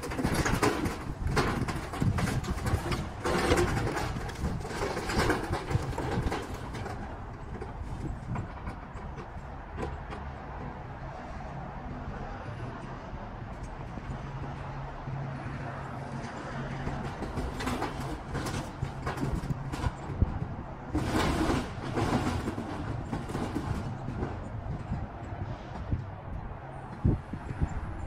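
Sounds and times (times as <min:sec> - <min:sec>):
knocks and rattles: 0:00.0 - 0:10.8, 0:13.5 - 0:26.4
heavy engine humming: 0:00.0 - 0:28.0.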